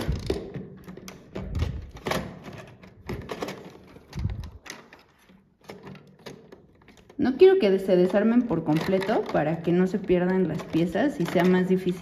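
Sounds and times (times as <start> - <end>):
plastic bricks knocking and clicking: 0.0 - 12.0.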